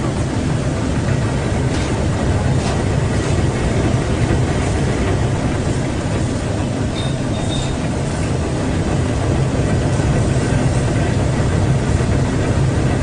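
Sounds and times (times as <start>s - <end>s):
washing machine hum and churn: 0.0s - 13.0s.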